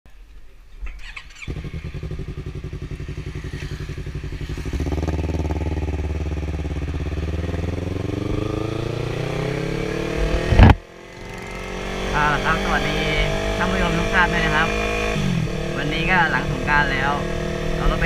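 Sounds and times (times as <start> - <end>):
motorcycle engine accelerating: 0.9 - 18.0.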